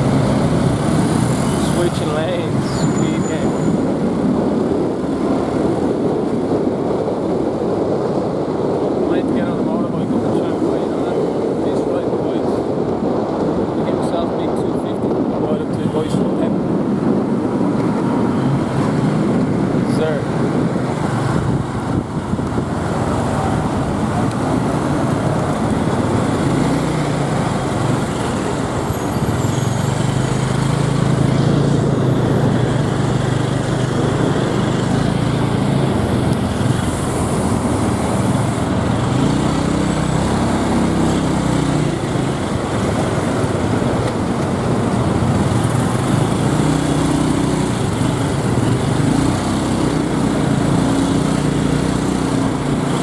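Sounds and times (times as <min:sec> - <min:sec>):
road traffic rush: 0:00.0 - 0:53.0.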